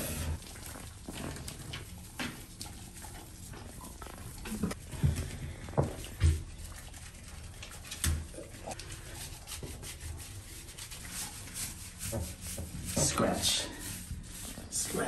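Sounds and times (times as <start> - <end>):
hands scrubbing wet lathered fur: 0.0 - 15.0.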